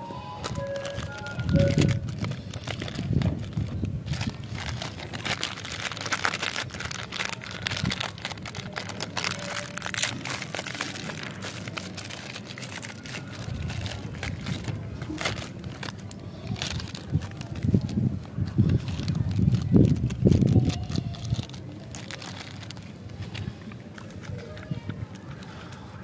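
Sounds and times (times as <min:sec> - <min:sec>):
candy wrappers crinkling: 0:00.0 - 0:26.0.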